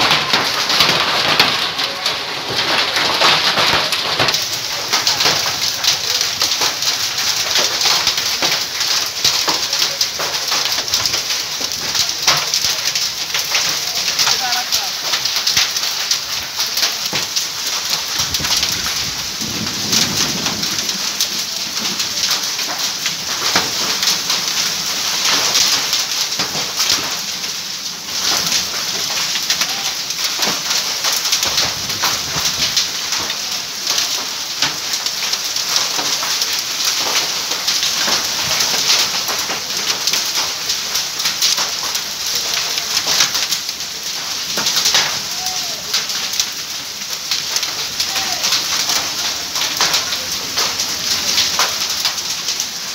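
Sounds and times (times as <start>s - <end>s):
heavy rain and hail on street: 0.0s - 52.9s.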